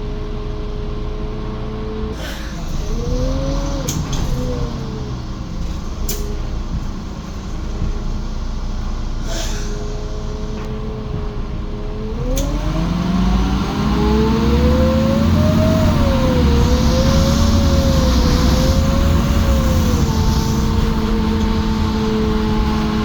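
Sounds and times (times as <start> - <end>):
bus engine whining: 0.0 - 23.0.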